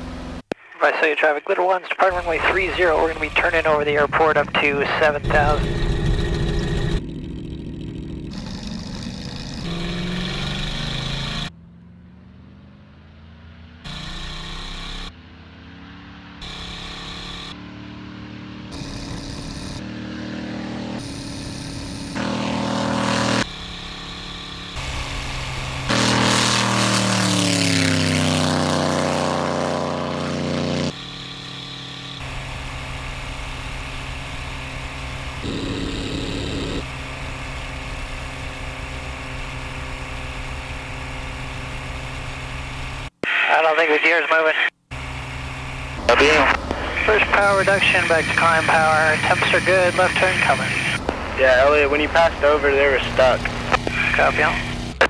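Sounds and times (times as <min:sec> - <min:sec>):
propeller airplane engine: 0:00.0 - 0:00.6, 0:02.0 - 0:11.6, 0:13.7 - 0:55.0.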